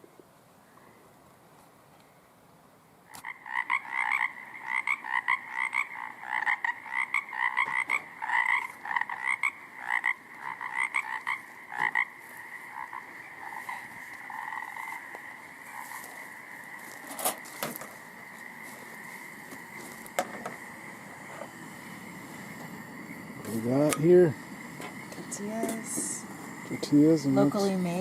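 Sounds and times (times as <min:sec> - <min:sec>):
frogs croaking: 0:03.0 - 0:28.0.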